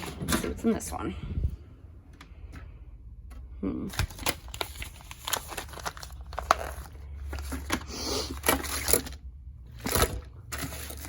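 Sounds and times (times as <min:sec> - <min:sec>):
crinkling and rustling: 0:02.1 - 0:11.0
items clicking and knocking: 0:02.1 - 0:11.0.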